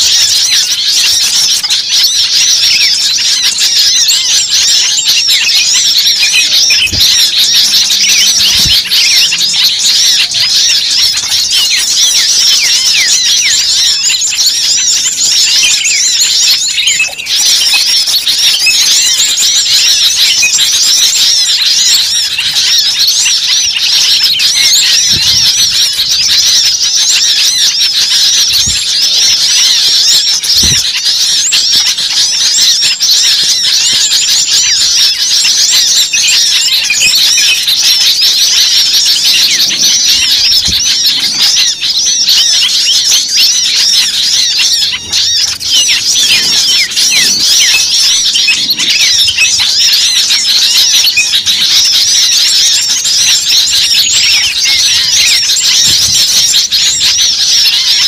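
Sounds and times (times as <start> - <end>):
many small birds chirping: 0.0 - 58.0.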